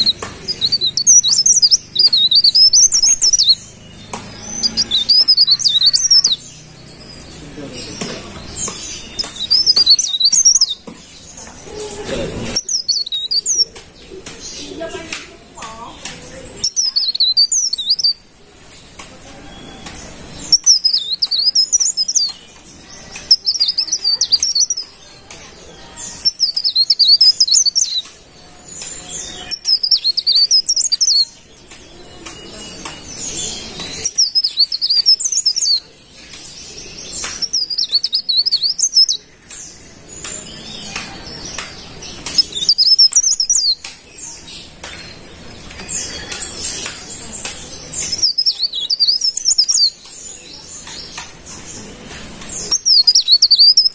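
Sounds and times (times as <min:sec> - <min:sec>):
leaf warbler singing: 0:00.0 - 0:53.9.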